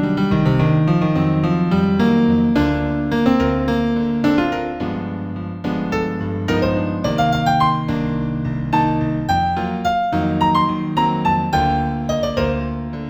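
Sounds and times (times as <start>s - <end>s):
new-age piano music: 0.0s - 13.0s.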